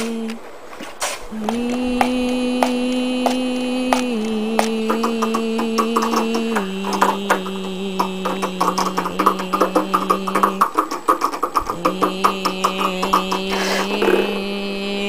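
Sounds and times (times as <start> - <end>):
hummed vocal drone: 0.0 - 15.0.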